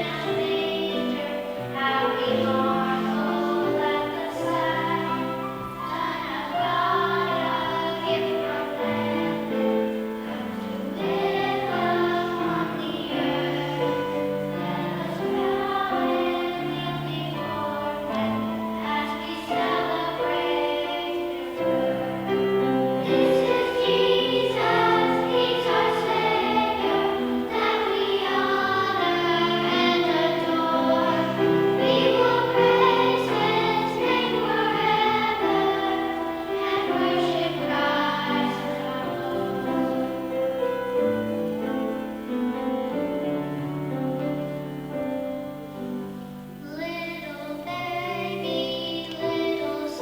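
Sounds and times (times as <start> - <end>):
instrumental accompaniment: 0.0 - 47.0
choir singing: 0.0 - 50.0.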